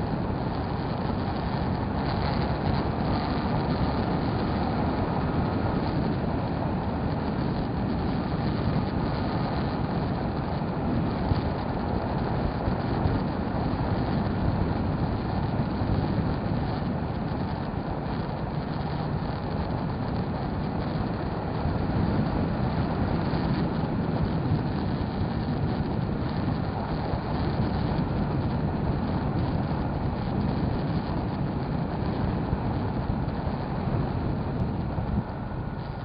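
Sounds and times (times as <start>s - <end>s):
road noise: 0.0s - 36.0s.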